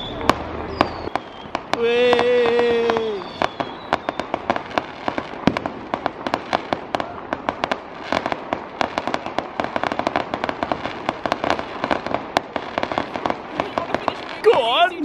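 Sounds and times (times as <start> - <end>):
fireworks cracking and popping: 0.0 - 15.0.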